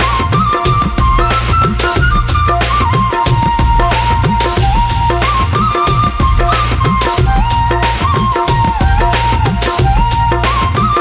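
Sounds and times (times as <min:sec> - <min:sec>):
drum and bass music: 0:00.0 - 0:11.0.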